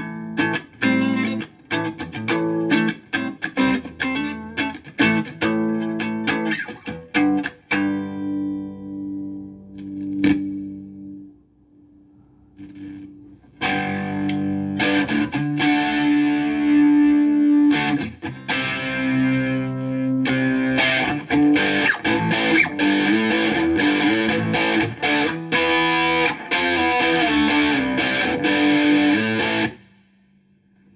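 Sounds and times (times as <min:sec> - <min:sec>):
distorted electric guitar: 0:00.0 - 0:11.4, 0:12.3 - 0:30.6.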